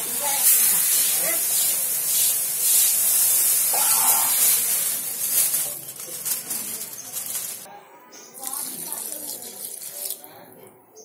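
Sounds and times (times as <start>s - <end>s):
sugar pouring into a metal pot: 0.0s - 7.7s, 8.4s - 10.3s.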